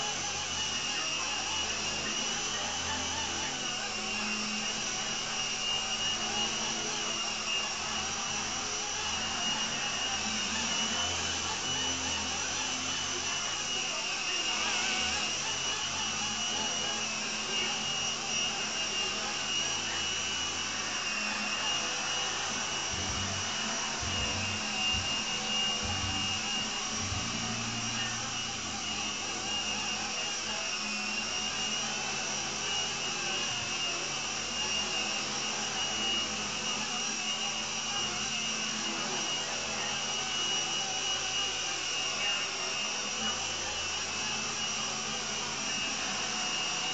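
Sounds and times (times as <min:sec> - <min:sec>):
rc helicopter motor whine: 0:00.0 - 0:46.9.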